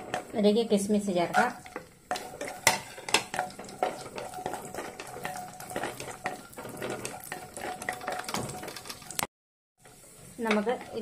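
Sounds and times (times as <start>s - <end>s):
light sizzle of frying: 0.0s - 11.0s
spatula scraping a pan: 0.0s - 11.0s.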